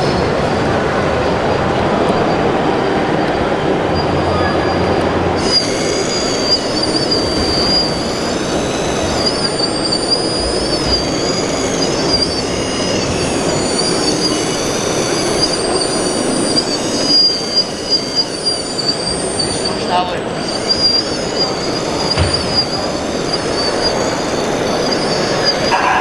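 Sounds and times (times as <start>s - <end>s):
crowd and hall noise: 0.0s - 26.0s
high-pitched electric motor whine: 0.0s - 26.0s.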